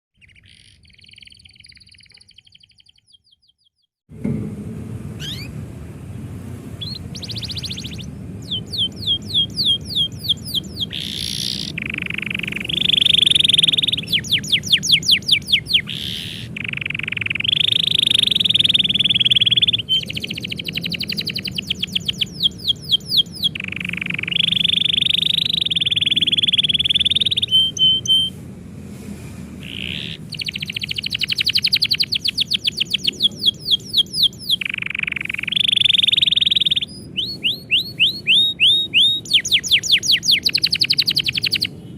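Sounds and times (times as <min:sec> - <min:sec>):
canary singing trills: 0:00.2 - 0:03.9, 0:05.2 - 0:05.6, 0:06.7 - 0:28.4, 0:29.6 - 0:41.9.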